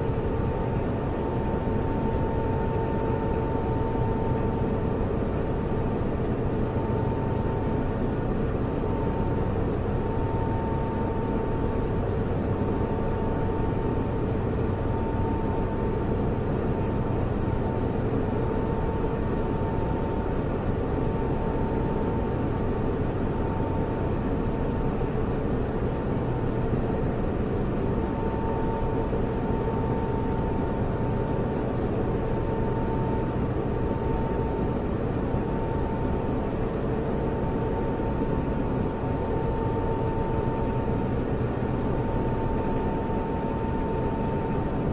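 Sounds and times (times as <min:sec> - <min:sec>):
server fans humming: 0:00.0 - 0:44.9.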